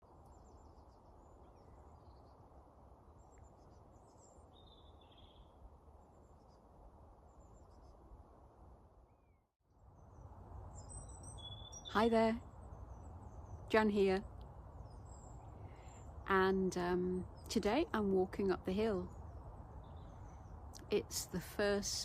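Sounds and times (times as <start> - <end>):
low steady hiss: 0.0 - 22.0
birds chirping: 0.1 - 8.2, 9.0 - 22.0.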